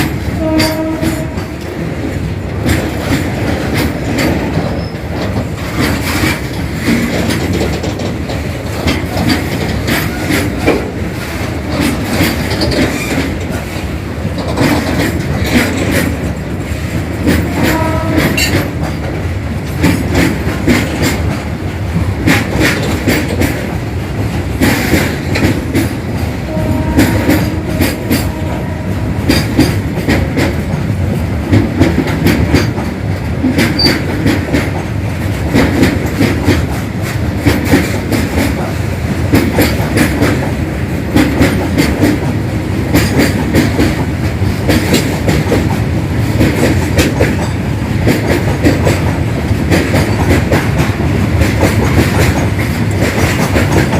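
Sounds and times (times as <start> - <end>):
train wheels clattering: 0.0 - 53.9.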